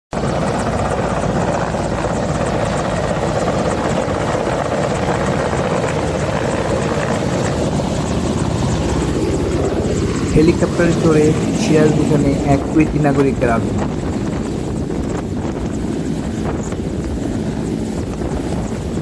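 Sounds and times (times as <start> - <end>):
helicopter rotor beating: 0.2 - 19.0.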